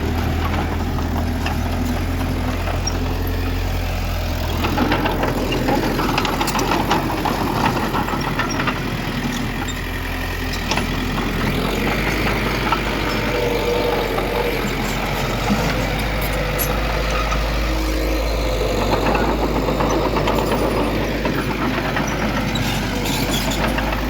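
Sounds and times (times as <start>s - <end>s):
diesel machinery running: 0.0s - 24.0s
clanks and rattles: 0.2s - 24.0s.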